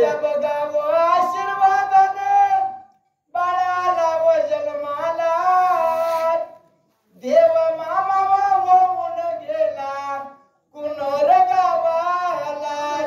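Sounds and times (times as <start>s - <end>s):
man chanting through loudspeaker: 0.0s - 13.0s.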